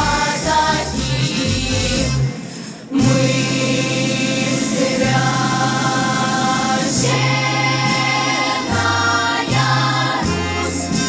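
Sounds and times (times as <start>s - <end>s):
choir singing: 0.0s - 2.3s, 2.9s - 11.0s
instrumental accompaniment: 0.0s - 11.0s.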